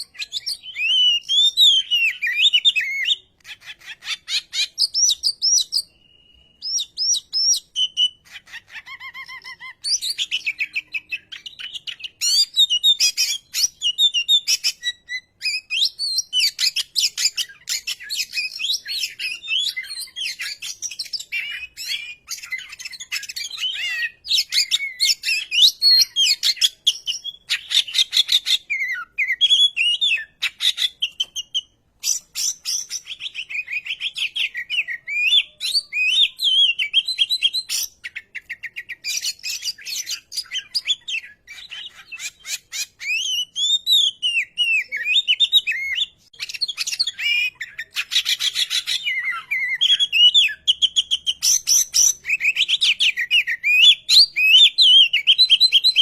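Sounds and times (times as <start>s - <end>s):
bird singing whistles and rattles: 0.0s - 56.0s.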